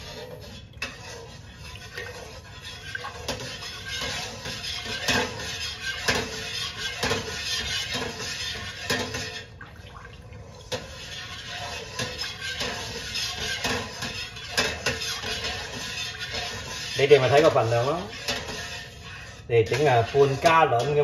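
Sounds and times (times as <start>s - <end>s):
liquid swishing: 0.0s - 21.0s
metal spoon scraping a pot: 0.0s - 21.0s.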